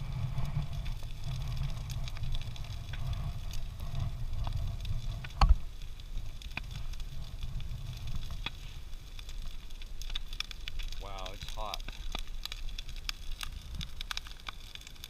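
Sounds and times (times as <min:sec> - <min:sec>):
bonfire rumble: 0:00.0 - 0:15.0
fire crackling: 0:00.0 - 0:15.0.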